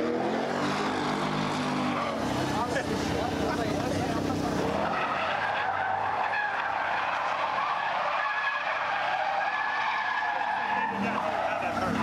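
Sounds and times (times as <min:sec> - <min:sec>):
car engine under power: 0:00.0 - 0:12.0
tyres squealing: 0:00.7 - 0:12.0.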